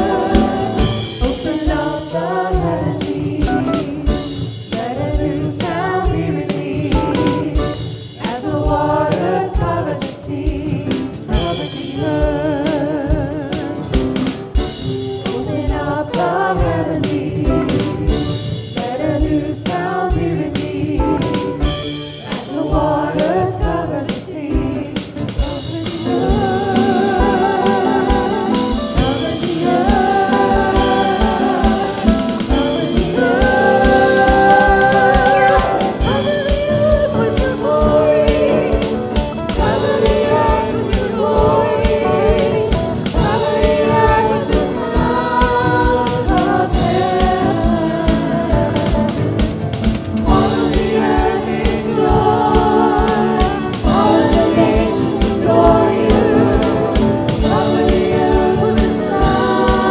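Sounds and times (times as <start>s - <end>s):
voices singing with vibrato: 0.0s - 14.2s, 15.1s - 49.6s, 50.2s - 59.9s
band accompaniment: 0.0s - 59.9s
steady drum beat: 0.0s - 59.9s.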